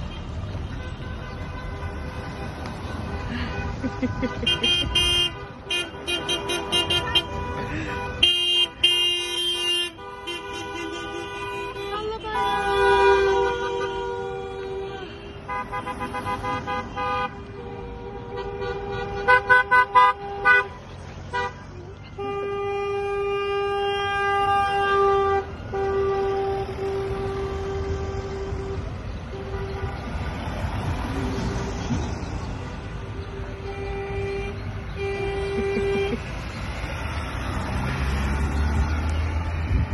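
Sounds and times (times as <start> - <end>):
car horns honking: 0.0 - 31.7, 32.7 - 39.9.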